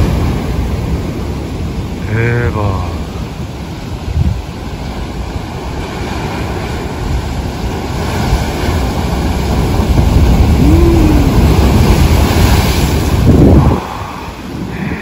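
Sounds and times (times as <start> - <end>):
surf crashing on breakwater: 0.0 - 15.0
wind buffeting microphone: 3.0 - 15.0.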